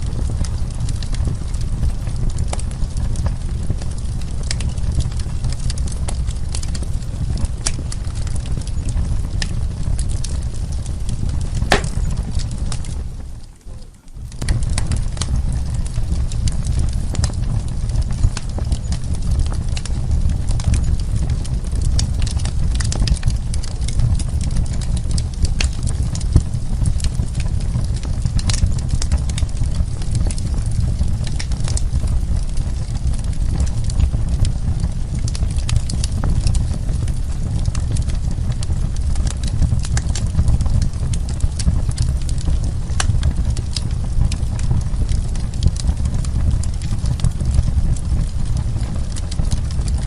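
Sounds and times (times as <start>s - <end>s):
fire pops and snaps: 0.0s - 50.0s
low rumble of flames: 0.0s - 50.0s
wood fire crackling: 0.0s - 50.0s.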